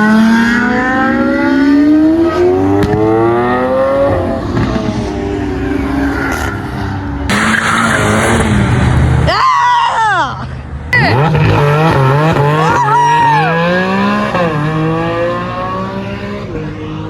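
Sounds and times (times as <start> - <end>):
car engine accelerating: 0.0 - 9.3, 10.9 - 17.0.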